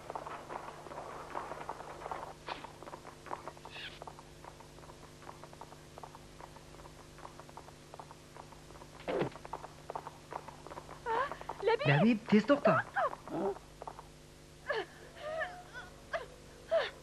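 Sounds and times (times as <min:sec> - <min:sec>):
horse hoofbeats galloping: 0:00.0 - 0:14.2.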